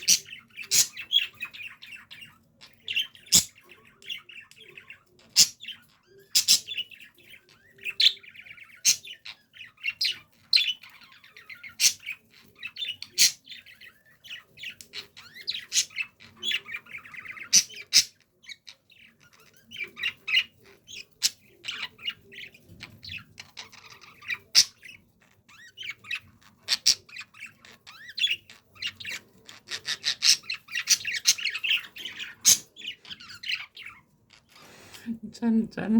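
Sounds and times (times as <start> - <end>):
sharp chirps and squawks: 0.0 - 34.9
budgerigars chattering: 0.0 - 35.9.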